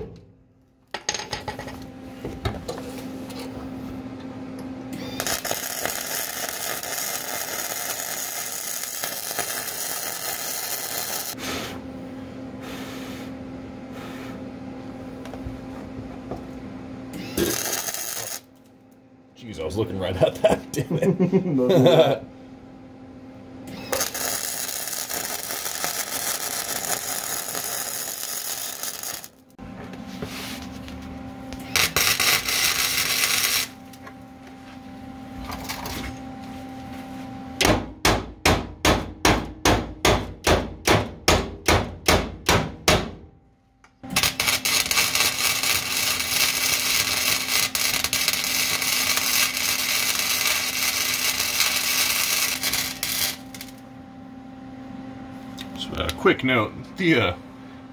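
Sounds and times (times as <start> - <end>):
arc welding noise: 0.9 - 14.4, 15.0 - 22.3, 23.3 - 37.0, 43.9 - 54.0, 55.3 - 57.8.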